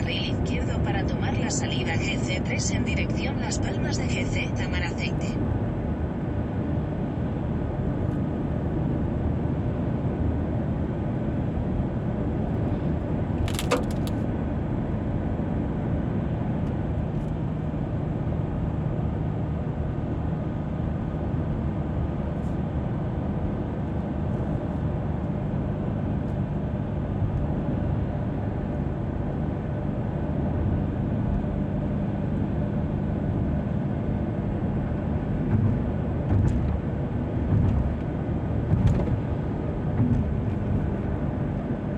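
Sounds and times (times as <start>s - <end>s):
road and engine noise: 0.0s - 41.9s.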